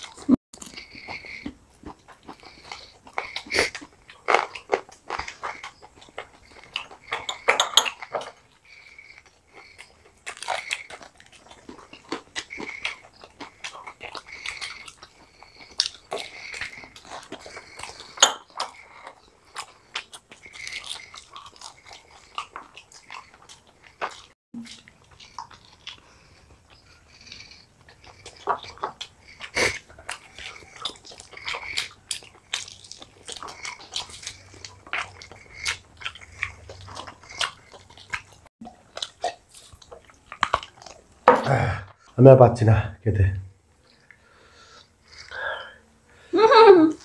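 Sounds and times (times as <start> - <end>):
crunching fried batter: 0.0 - 41.3.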